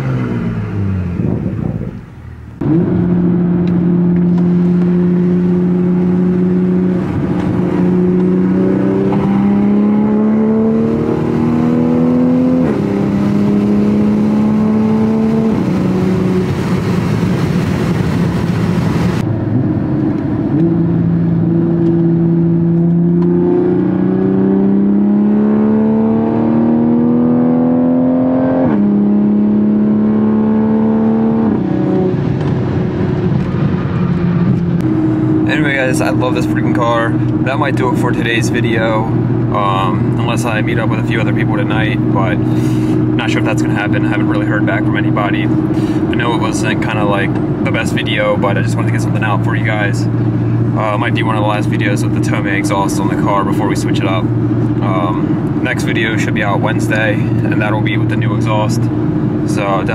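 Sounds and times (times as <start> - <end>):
car exhaust through gear shifts: 0.0 - 59.9.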